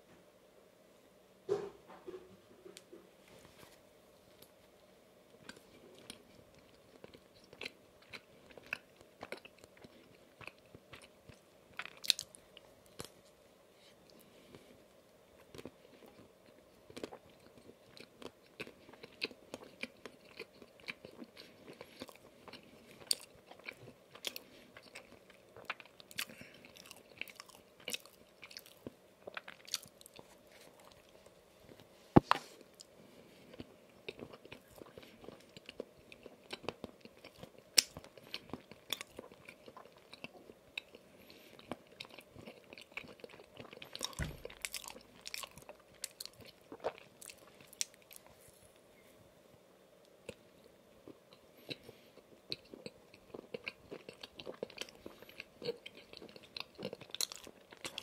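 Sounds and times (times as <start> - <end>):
chewing soft donut: 4.2 - 48.9, 50.0 - 58.0.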